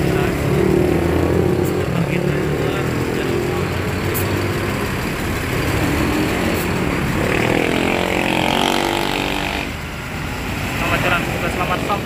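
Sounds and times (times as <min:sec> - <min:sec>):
diesel coach engine passing: 0:00.0 - 0:12.0.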